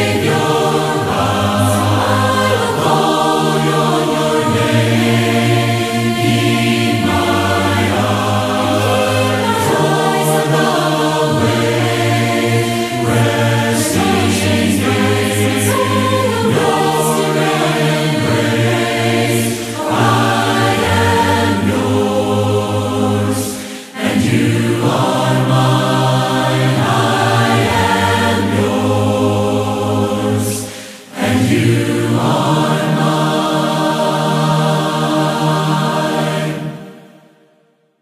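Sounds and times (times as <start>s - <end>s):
a cappella group singing harmony: 0.0s - 37.4s.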